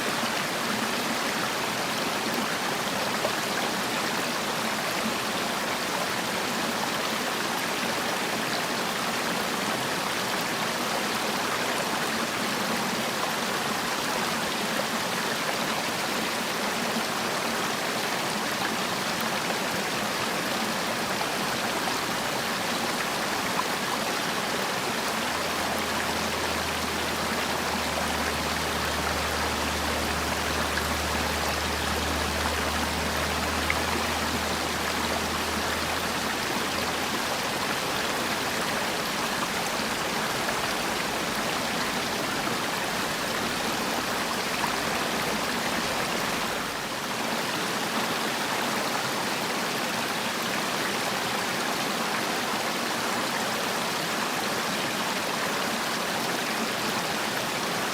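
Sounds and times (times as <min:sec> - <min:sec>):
stream rushing over rocks: 0:00.0 - 0:57.9.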